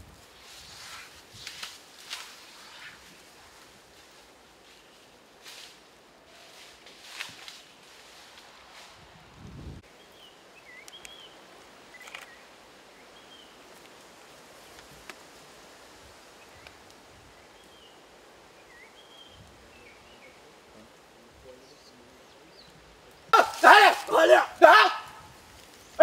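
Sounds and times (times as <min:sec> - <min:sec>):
woodland ambience: 0:00.0 - 0:26.0.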